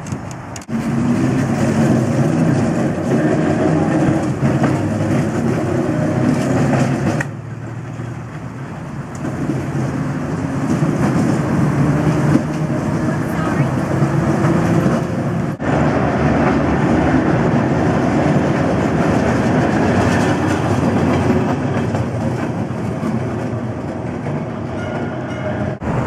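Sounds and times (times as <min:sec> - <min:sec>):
streetcar motors rumbling: 0:00.0 - 0:26.0
wheels rumbling on rails: 0:00.0 - 0:26.0.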